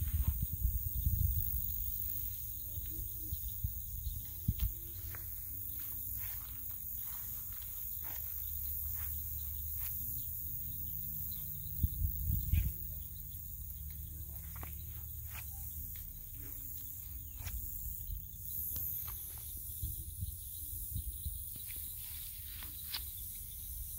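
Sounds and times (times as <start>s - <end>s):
steady low rumble: 0.0s - 21.6s
insects hissing: 0.0s - 23.9s.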